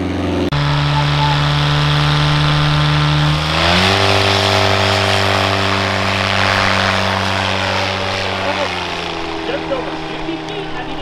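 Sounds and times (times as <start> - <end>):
propeller plane engine revving: 0.0 - 11.0.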